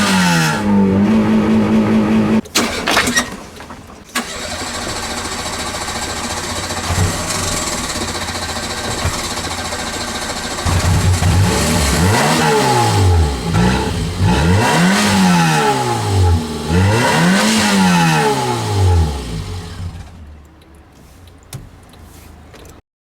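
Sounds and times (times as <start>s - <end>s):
car engine revving: 0.0s - 2.8s, 4.2s - 21.2s.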